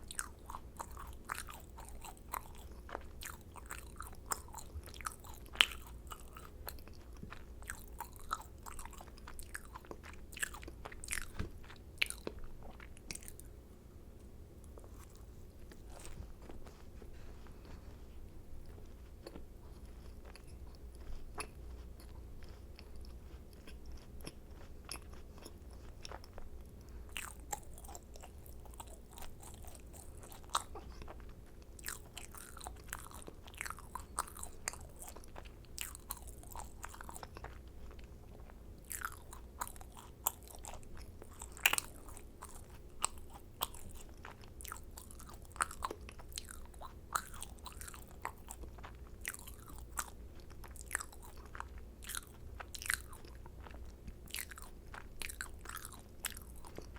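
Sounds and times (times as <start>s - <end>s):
crunchy chewing of macarons: 0.0s - 56.9s.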